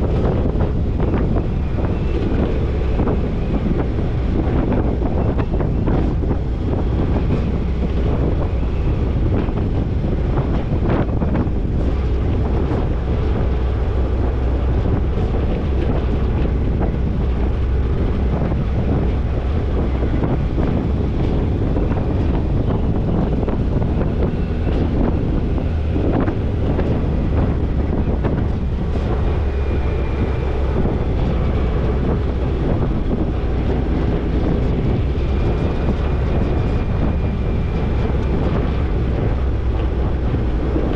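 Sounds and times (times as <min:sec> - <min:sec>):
vehicle rumble: 0:00.0 - 0:40.9
wind buffeting microphone: 0:00.0 - 0:40.9.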